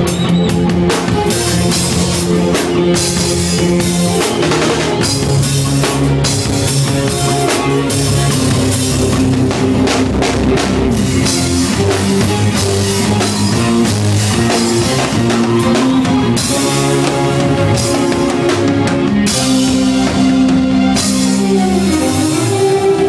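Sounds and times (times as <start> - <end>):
bass line: 0.0 - 23.0
keyboards: 0.0 - 23.0
loud drums: 0.0 - 23.0.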